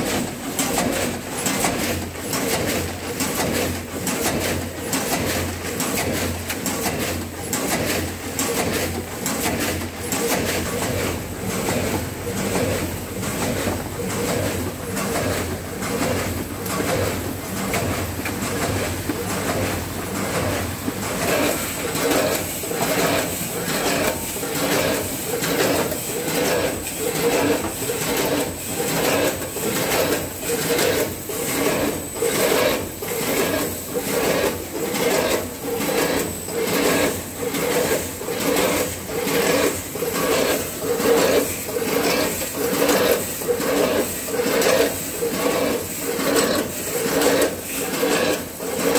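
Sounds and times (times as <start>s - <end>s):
machine hum and rattle: 0.0s - 48.9s.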